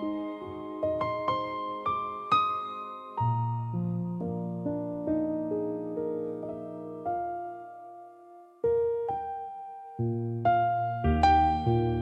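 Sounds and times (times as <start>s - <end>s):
soft piano melody: 0.0s - 12.0s.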